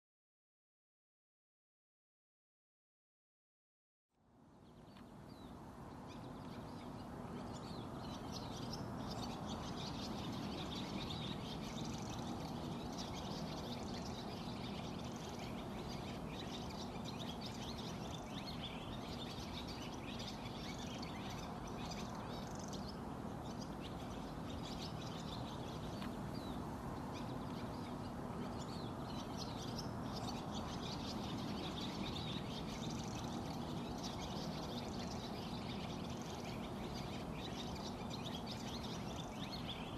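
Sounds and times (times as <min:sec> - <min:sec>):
birds chirping and calling: 0:04.6 - 0:39.9.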